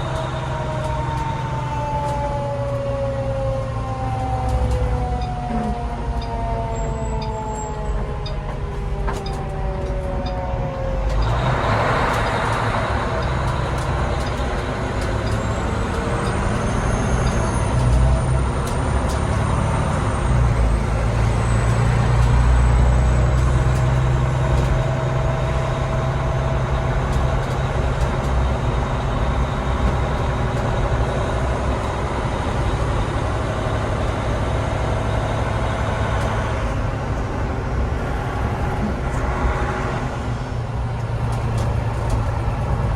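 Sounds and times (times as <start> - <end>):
siren winding down: 0.0 - 36.7
fire truck engine running: 0.0 - 42.9.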